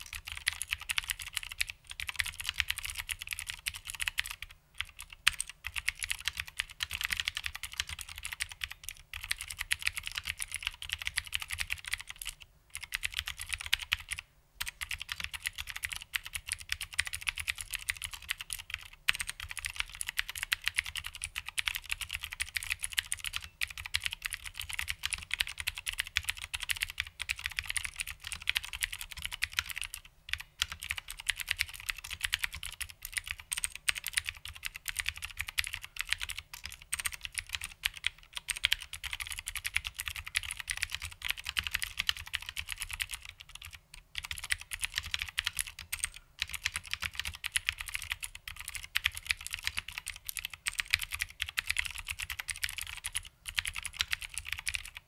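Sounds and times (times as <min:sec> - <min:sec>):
fast mechanical keyboard typing: 0:00.0 - 0:55.0.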